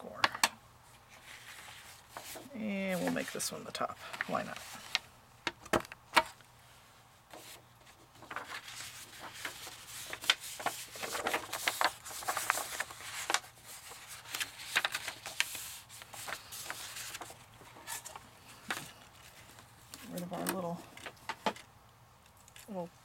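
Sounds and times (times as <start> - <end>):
paper rustling and creasing: 0.9 - 5.1, 7.3 - 21.6.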